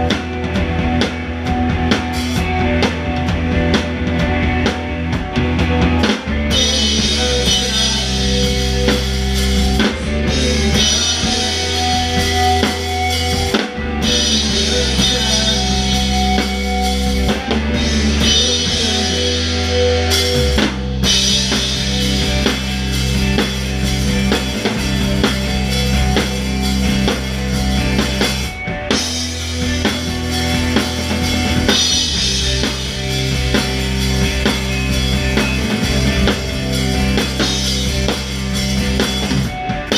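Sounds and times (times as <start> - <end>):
drum kit: 0.0 - 39.9
rock band playing live: 0.0 - 39.9.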